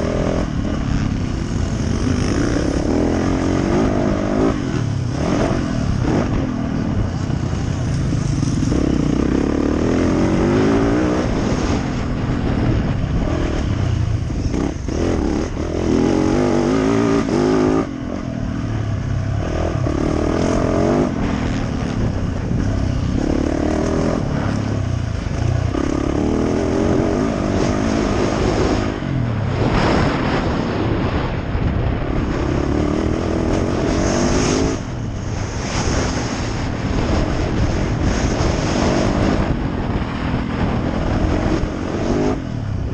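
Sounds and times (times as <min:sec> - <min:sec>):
motorbike engine revving: 0:00.0 - 0:42.9.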